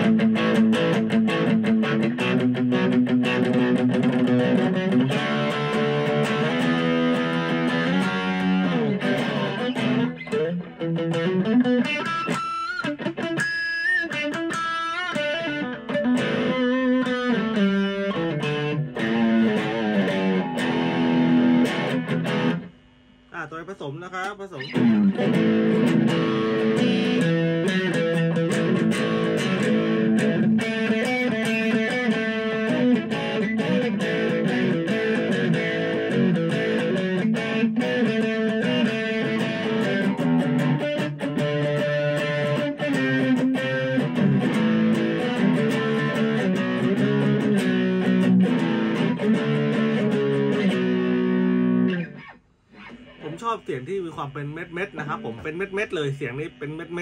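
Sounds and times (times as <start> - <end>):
overdriven electric guitar: 0.0 - 23.2, 24.2 - 57.0.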